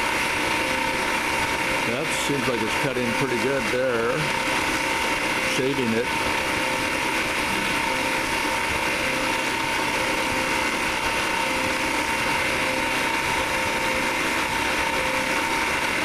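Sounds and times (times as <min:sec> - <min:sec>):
milling machine cutting metal: 0:00.0 - 0:16.0.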